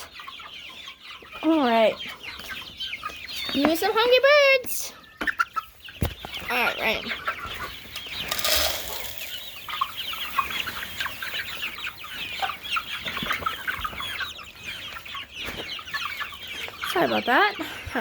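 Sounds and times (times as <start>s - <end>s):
chicks cheeping and clucking: 0.0s - 18.0s.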